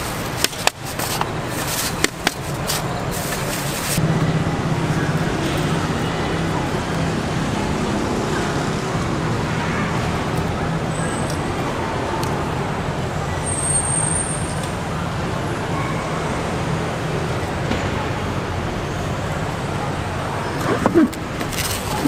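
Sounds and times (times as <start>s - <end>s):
market background hum and hiss: 0.0s - 22.0s.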